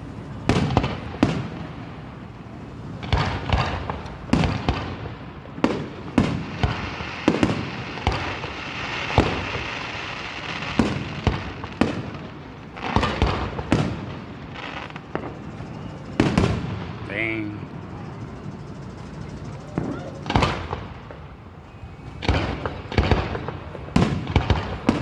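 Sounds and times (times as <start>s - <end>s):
fireworks booming and popping: 0.3s - 17.9s, 19.0s - 25.0s.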